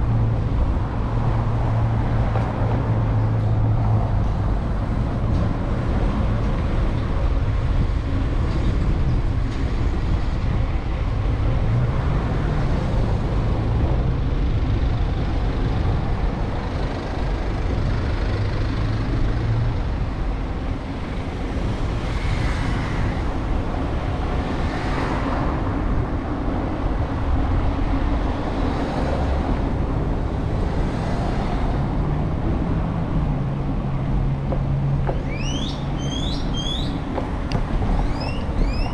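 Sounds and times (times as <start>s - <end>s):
road traffic noise: 0.0s - 38.9s
vehicles passing close: 0.0s - 38.9s.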